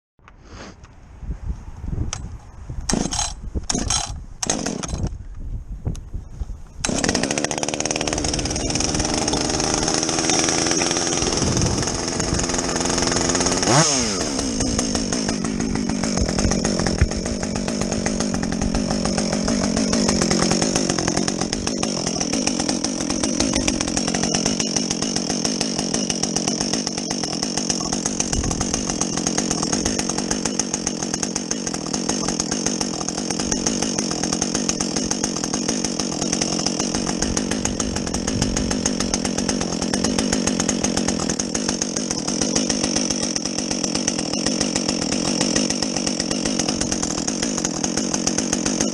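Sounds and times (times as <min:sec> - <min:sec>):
chainsaw cutting through log: 0:02.9 - 0:05.1, 0:06.8 - 0:48.9.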